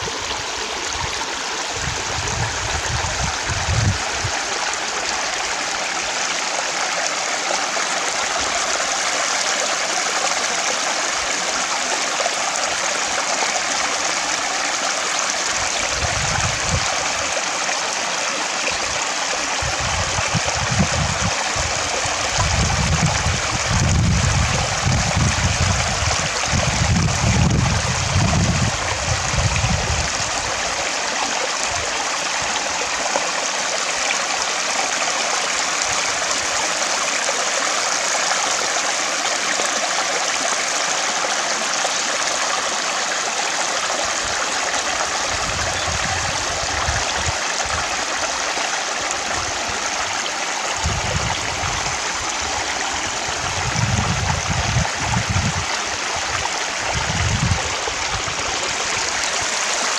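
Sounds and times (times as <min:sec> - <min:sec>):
water stream rushing: 0:00.0 - 0:59.9.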